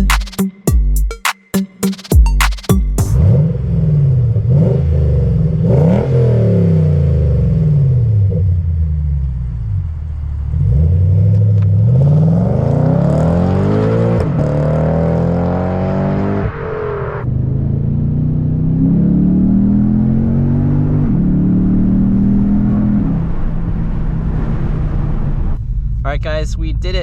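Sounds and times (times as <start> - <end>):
car engine revving: 3.1 - 26.1.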